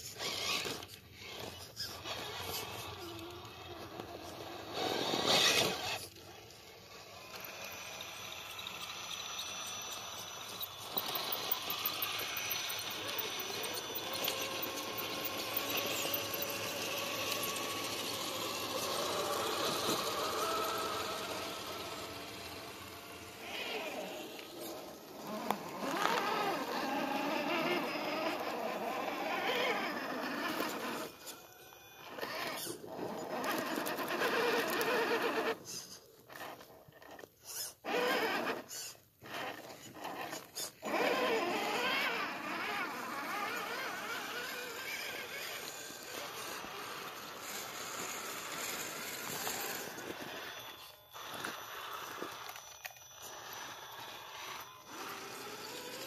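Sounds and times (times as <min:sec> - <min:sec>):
rc car electric motors whining: 0:00.0 - 0:56.0.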